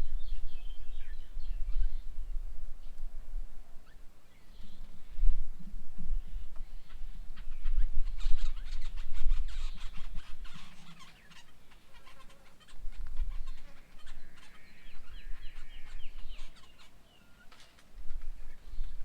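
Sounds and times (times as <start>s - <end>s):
birds chattering and calling: 0.0s - 3.0s, 3.8s - 19.0s.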